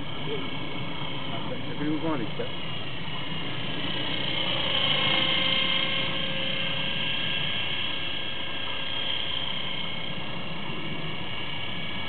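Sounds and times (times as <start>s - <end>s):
model helicopter whine: 0.0s - 12.0s.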